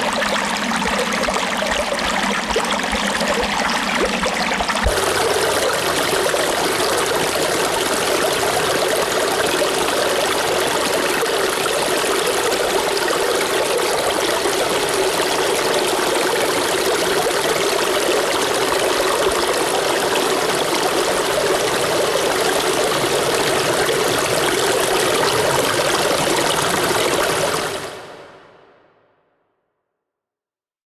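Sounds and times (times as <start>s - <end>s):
running water: 0.0s - 28.0s.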